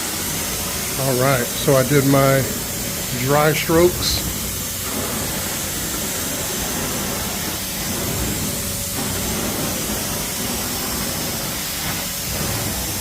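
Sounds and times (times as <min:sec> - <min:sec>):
carpet extraction machine suction: 0:00.0 - 0:13.0.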